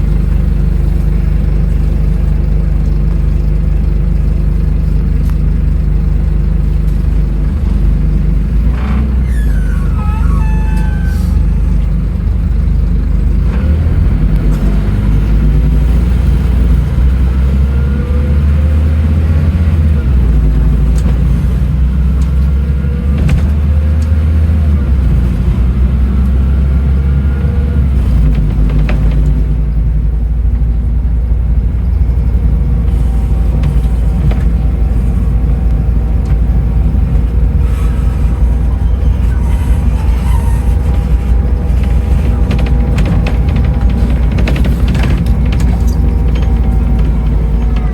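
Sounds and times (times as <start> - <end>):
bus engine rumble: 0.0 - 47.9
drivetrain whine: 0.0 - 47.9.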